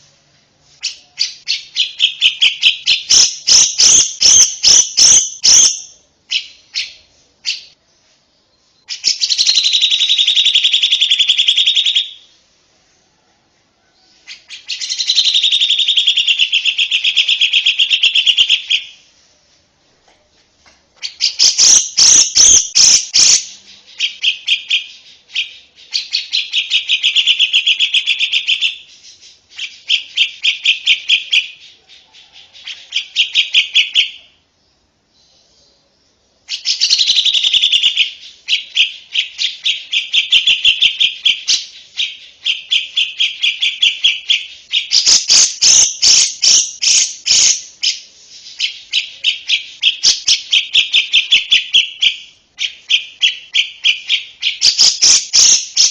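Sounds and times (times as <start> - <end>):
lovebird chattering high chirps: 0.8 - 7.8, 8.8 - 12.2, 14.3 - 19.0, 21.0 - 31.8, 36.5 - 55.9.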